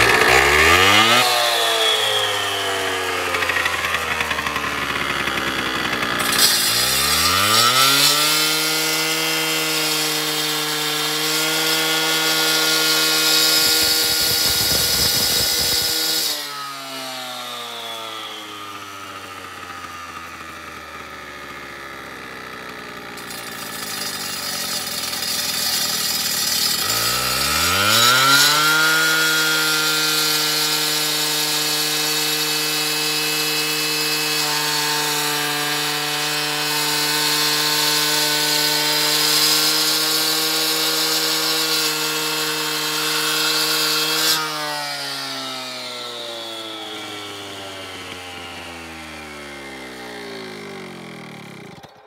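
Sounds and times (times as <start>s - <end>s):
cut-off saw cutting concrete: 0.0s - 52.0s.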